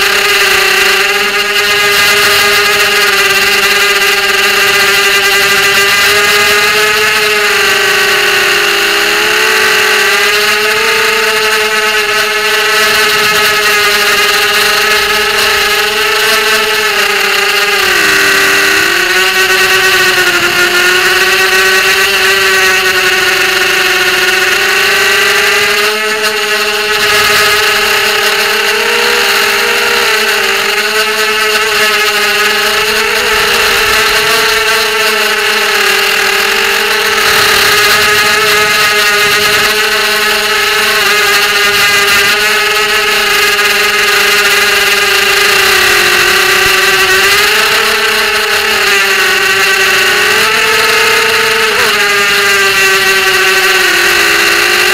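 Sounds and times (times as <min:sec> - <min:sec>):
drone motors whining: 0:00.0 - 0:54.9.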